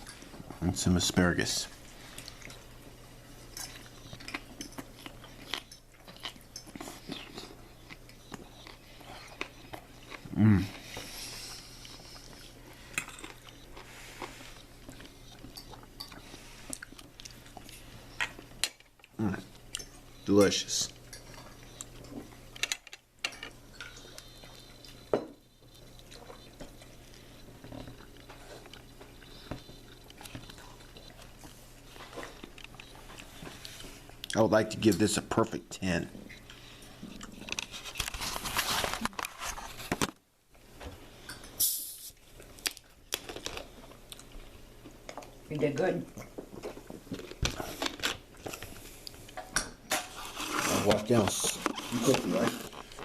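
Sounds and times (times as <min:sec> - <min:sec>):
faint steady hum: 0:00.0 - 0:53.0
person chewing food: 0:01.6 - 0:34.5, 0:36.2 - 0:40.1, 0:40.9 - 0:45.5, 0:46.1 - 0:53.0.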